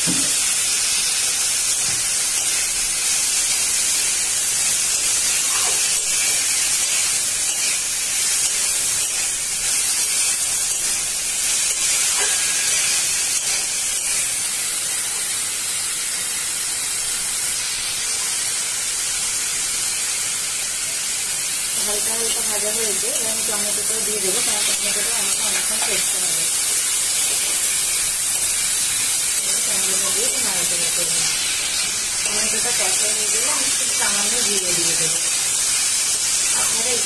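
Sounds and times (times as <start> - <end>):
onions sizzling in oil: 0.0 - 37.0.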